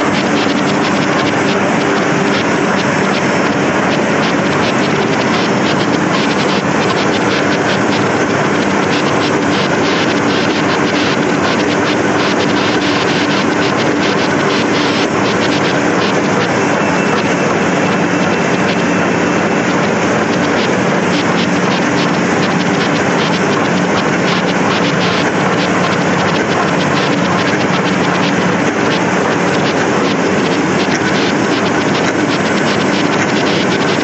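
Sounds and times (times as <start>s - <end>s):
fast fine ticking: 0.0s - 34.0s
printing press mechanical din: 0.0s - 34.0s.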